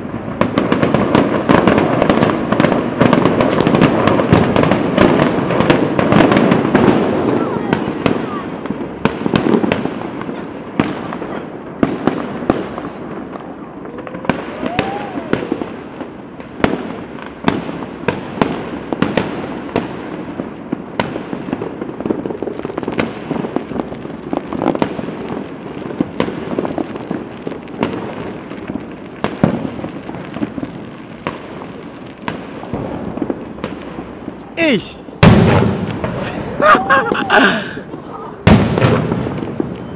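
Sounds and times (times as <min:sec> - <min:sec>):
fireworks bangs: 0:00.0 - 0:39.9
fireworks crackling and rumble: 0:00.0 - 0:39.9.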